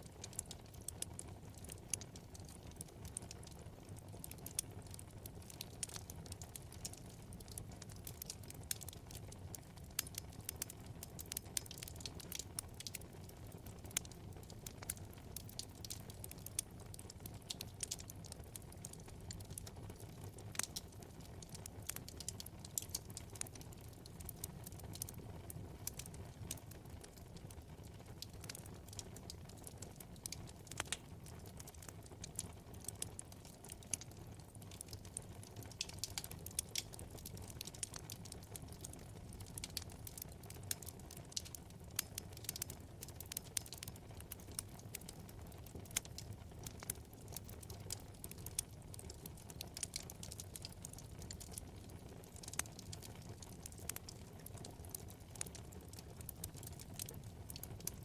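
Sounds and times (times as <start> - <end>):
burning logs crackling and popping: 0.0 - 58.0
low rumble of flames: 0.0 - 58.0.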